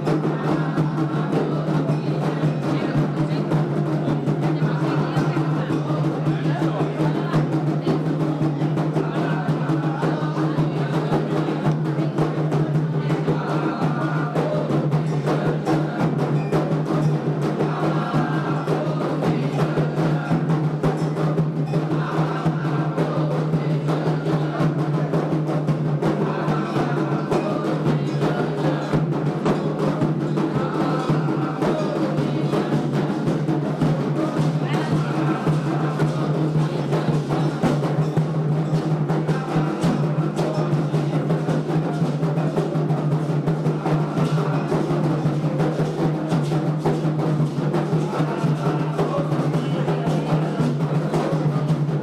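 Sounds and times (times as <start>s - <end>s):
hand drums playing fast rhythm: 0.0s - 52.0s.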